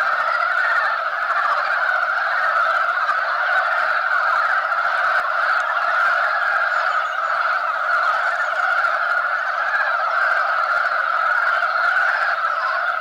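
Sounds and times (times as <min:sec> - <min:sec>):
frogs croaking in chorus: 0:00.0 - 0:13.0.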